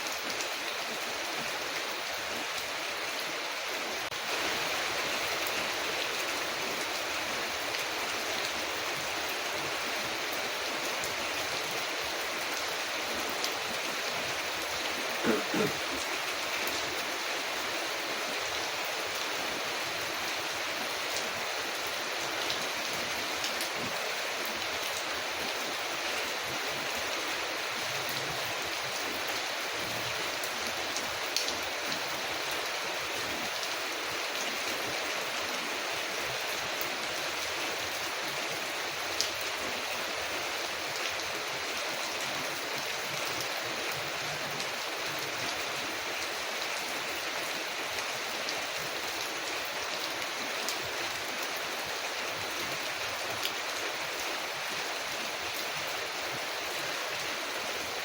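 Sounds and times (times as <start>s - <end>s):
rain on a window: 0.1s - 58.0s.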